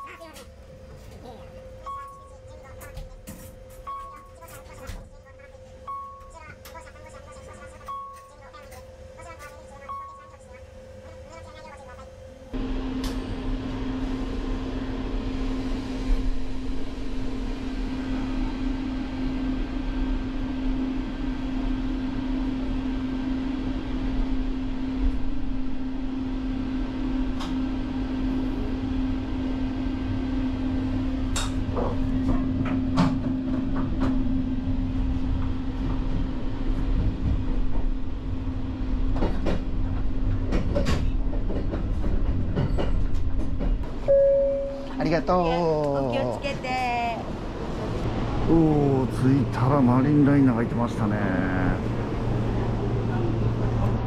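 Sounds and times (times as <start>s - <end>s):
train electrical hum: 0.0s - 54.0s.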